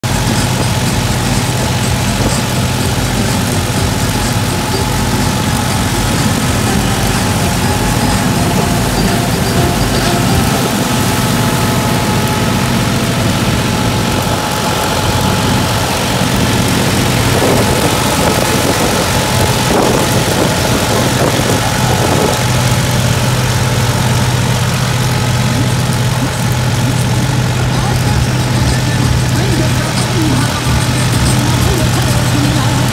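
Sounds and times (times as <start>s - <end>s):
reaper machinery whirring: 0.0s - 32.9s
tractor diesel engine running: 0.0s - 32.9s.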